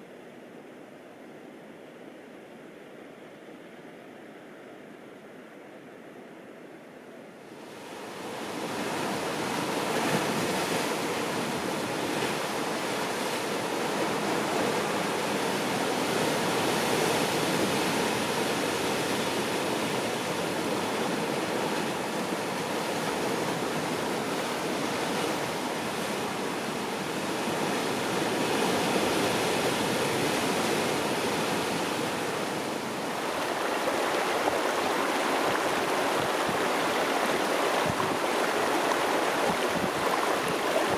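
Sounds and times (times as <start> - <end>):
rushing water: 7.6 - 40.9.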